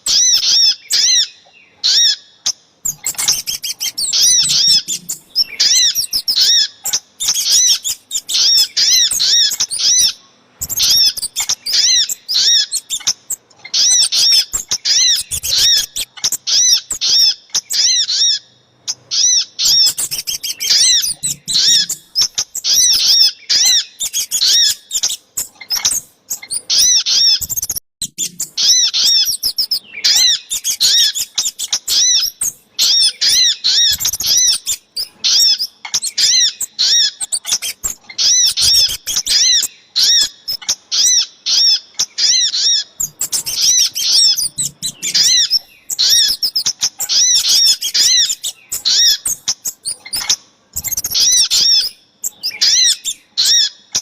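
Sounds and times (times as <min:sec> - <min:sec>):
high sharp bird chirps: 0:00.0 - 0:54.0.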